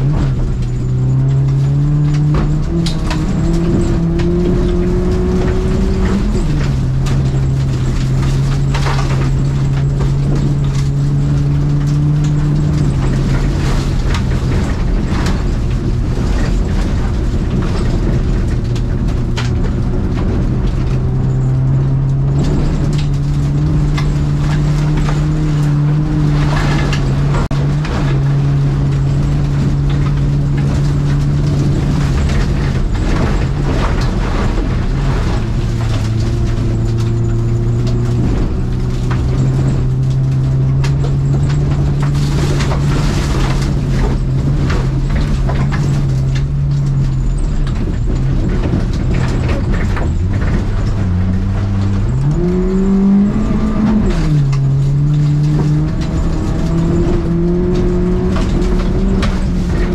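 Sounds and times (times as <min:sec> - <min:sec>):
car engine running hard: 0:00.0 - 0:59.9
knocks and rattles: 0:00.0 - 0:59.9.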